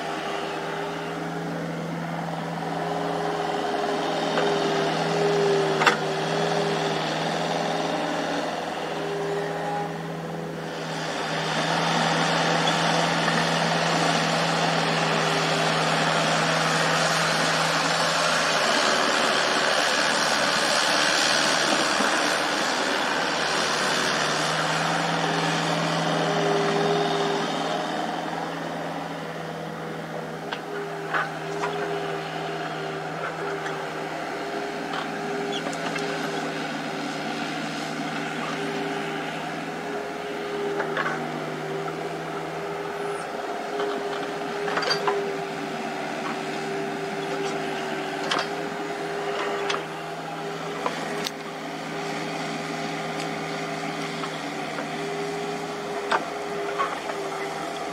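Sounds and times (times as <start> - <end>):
diesel excavator engine running: 0.0 - 57.9.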